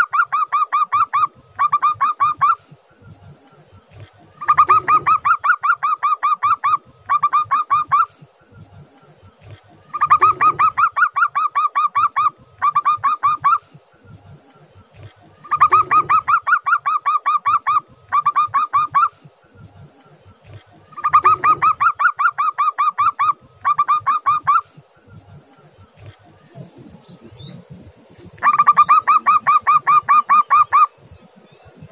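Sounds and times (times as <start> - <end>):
dove cooing song: 0.0 - 31.9.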